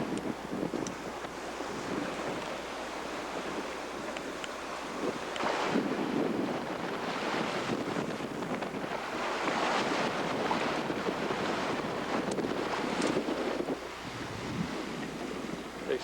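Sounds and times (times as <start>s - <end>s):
big waves splashing: 0.0s - 16.0s
wind buffeting microphone: 0.0s - 16.0s.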